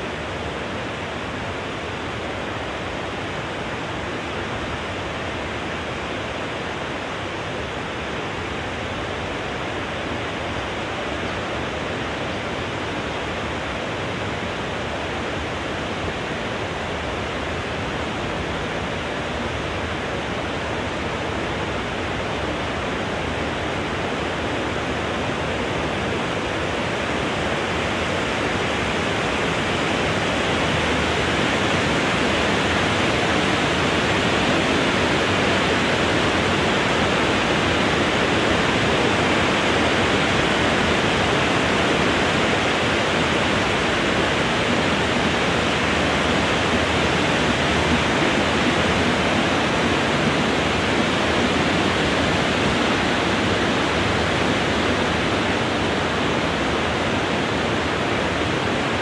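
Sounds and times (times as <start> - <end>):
wind blowing through trees: 0.0 - 59.0.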